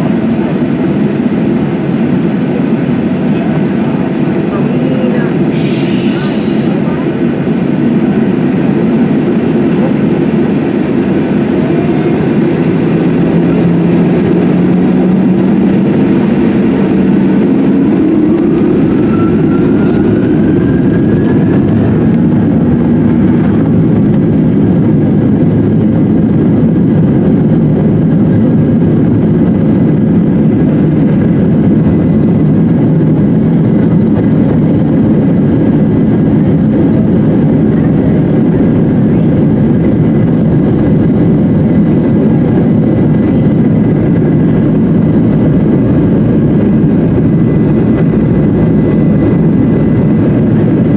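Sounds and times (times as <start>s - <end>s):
jet engine roar in cabin: 0.0s - 50.9s.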